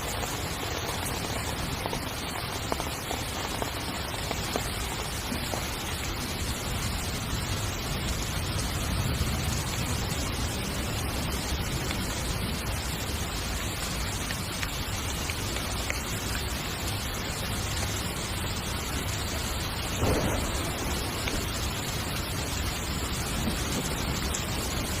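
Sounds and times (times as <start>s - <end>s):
heavy rain on a tent: 0.0s - 25.0s.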